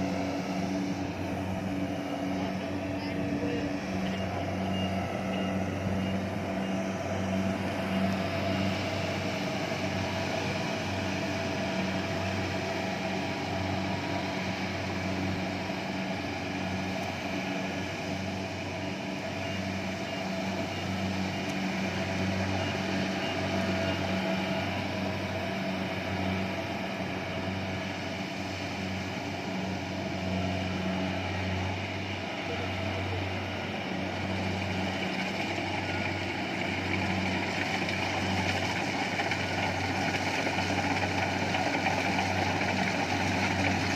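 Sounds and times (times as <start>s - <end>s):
combine harvester engine droning: 0.0s - 43.9s.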